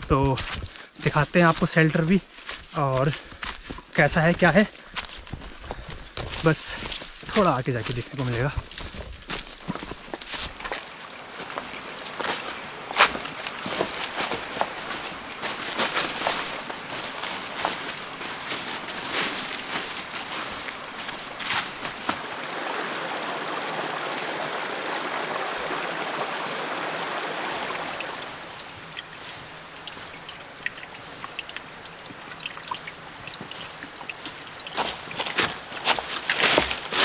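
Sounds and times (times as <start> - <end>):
footsteps on rock: 0.0 - 10.8, 12.1 - 22.2, 27.7 - 37.0
footsteps crunching on leaves: 0.0 - 22.3, 27.6 - 37.0
forest stream rushing: 0.0 - 37.0.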